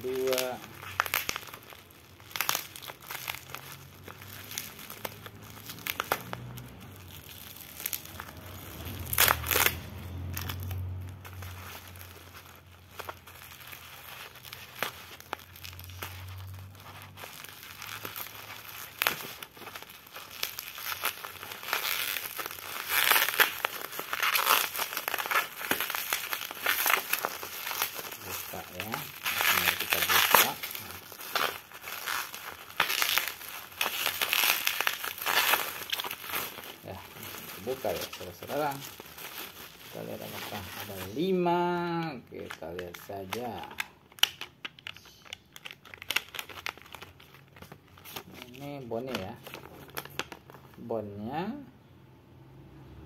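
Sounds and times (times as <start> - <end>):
plastic wrapping crinkling: 0.0 - 51.6.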